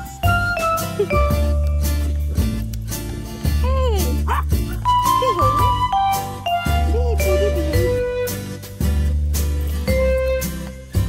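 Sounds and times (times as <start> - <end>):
music with high notes and bass: 0.0 - 11.0.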